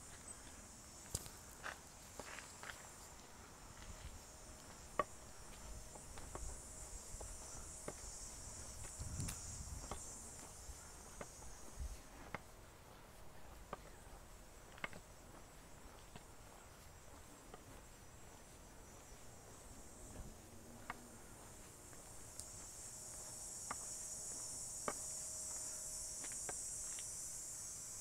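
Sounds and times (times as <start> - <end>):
footsteps on paved path: 0.0 - 28.0
insects droning in trees: 0.0 - 28.0.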